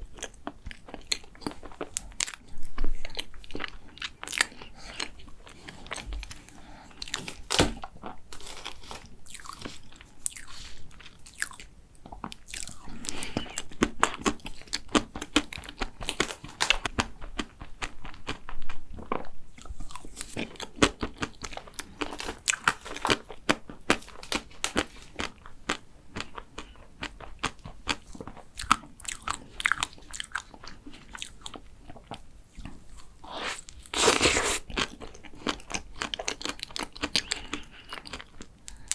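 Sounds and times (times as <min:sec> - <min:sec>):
chewing with crunches: 0:00.0 - 0:38.9.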